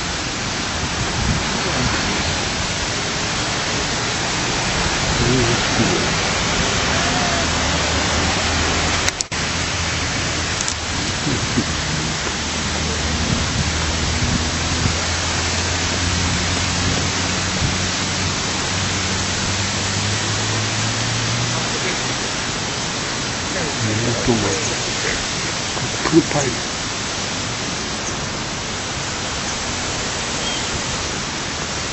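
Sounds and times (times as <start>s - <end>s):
rushing water: 0.0s - 31.9s.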